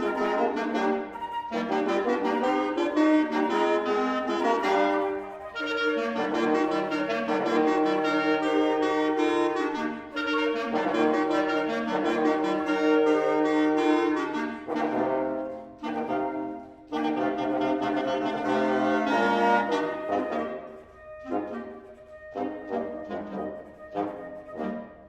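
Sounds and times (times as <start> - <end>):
french horns playing chords: 0.0 - 24.9.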